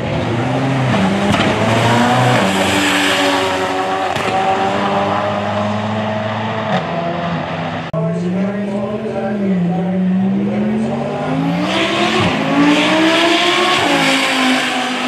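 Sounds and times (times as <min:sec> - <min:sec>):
race cars accelerating hard: 0:00.0 - 0:15.0.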